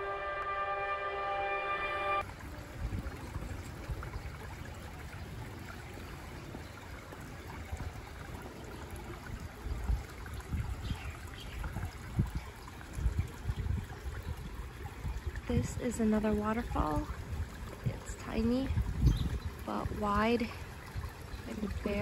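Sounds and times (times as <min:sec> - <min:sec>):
water trickling over rocks: 0:02.2 - 0:22.0.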